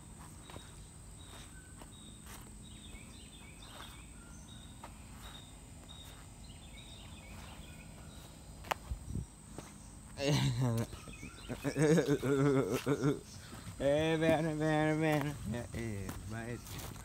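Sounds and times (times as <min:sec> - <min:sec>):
soft steps on sandy ground: 0:00.0 - 0:17.0.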